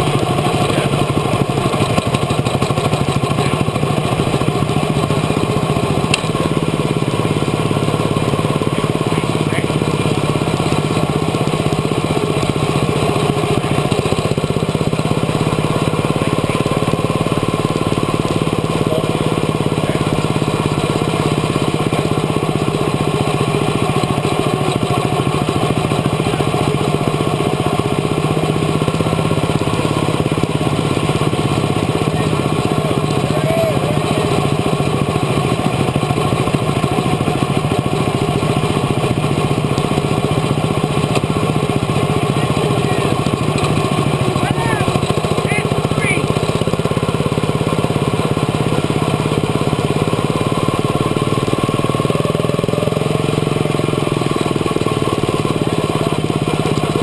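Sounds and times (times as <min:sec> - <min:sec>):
small race car engine running: 0:00.0 - 0:57.0.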